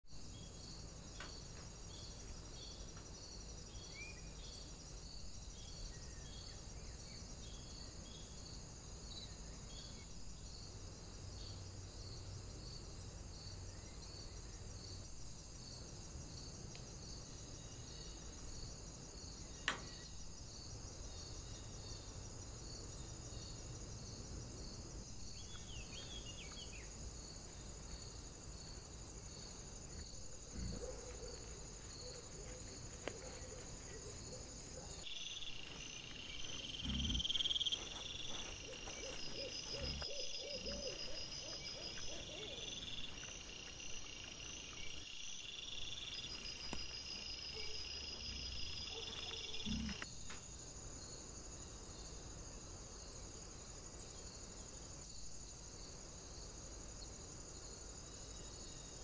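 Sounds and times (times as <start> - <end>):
crickets chirping: 0.0 - 59.0
shrill insect trill: 0.2 - 59.0.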